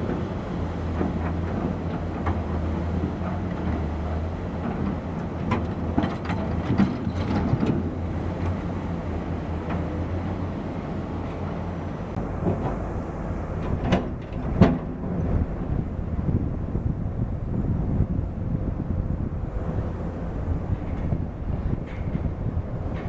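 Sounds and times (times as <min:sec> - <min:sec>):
construction machinery engine hum: 0:00.0 - 0:23.0.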